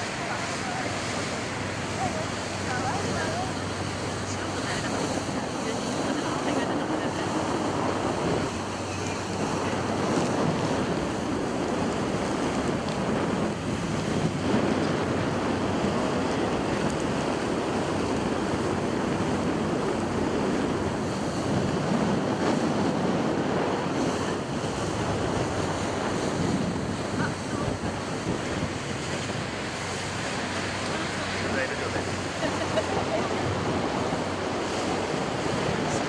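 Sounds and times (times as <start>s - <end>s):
water rushing: 0.0s - 36.0s
wind buffeting microphone: 0.0s - 36.0s.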